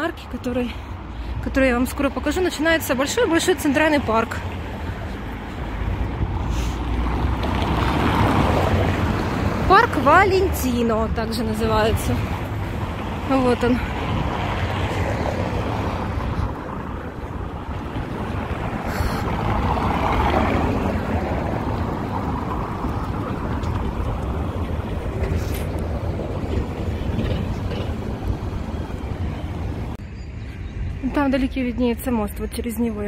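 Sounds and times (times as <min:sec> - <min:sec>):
outdoor traffic noise: 0:00.0 - 0:33.0
wind buffeting microphone: 0:00.0 - 0:33.0.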